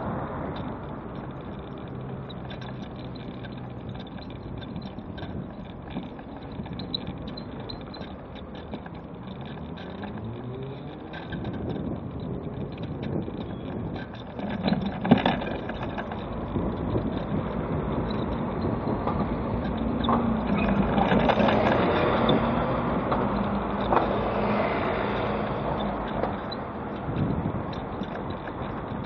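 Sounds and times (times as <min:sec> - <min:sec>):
bus diesel engine humming: 0:00.0 - 0:29.0
road traffic: 0:00.0 - 0:29.0.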